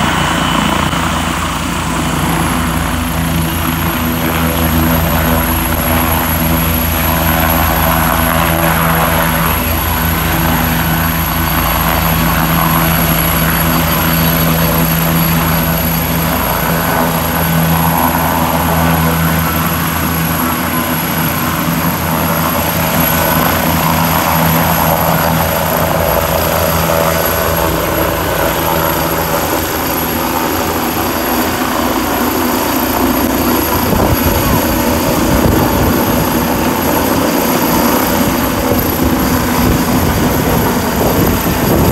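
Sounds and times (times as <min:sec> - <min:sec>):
helicopter drone overhead: 0:00.0 - 0:41.9.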